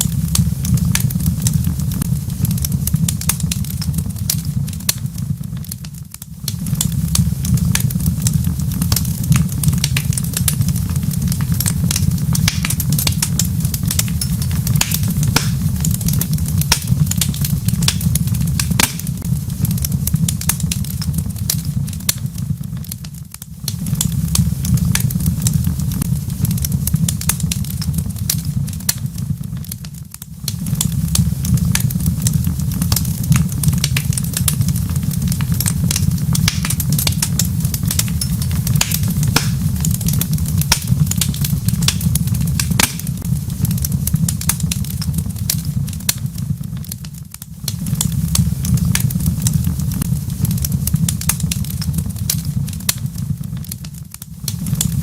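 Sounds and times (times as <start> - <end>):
fire low rumble: 0.0 - 55.0
wood fire crackling and popping: 0.0 - 55.0.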